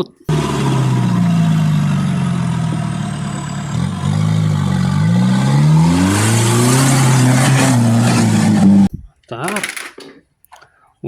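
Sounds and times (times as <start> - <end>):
vehicle engine revving: 0.0 - 8.9.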